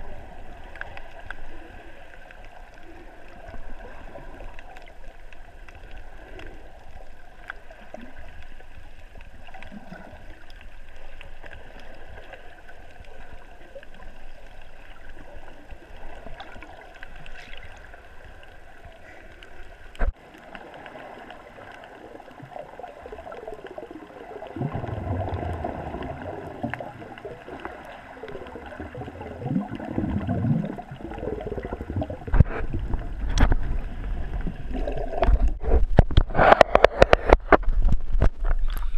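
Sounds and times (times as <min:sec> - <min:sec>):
water gurgling and bubbling: 0:00.0 - 0:19.2, 0:20.0 - 0:38.9
muffled underwater water noise: 0:00.0 - 0:38.9.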